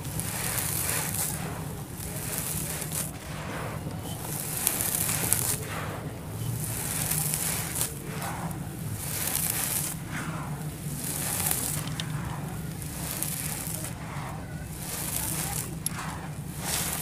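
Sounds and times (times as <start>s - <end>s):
dust being swept by hand: 0.0s - 17.0s.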